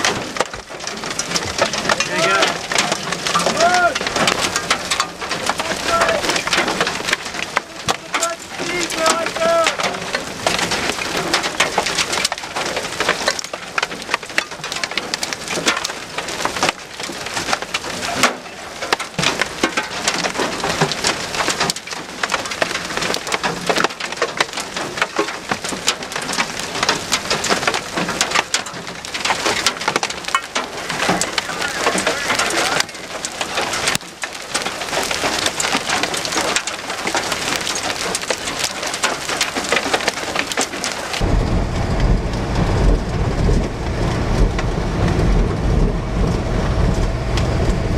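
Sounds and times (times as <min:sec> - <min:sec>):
hail clattering: 0:00.0 - 0:47.9.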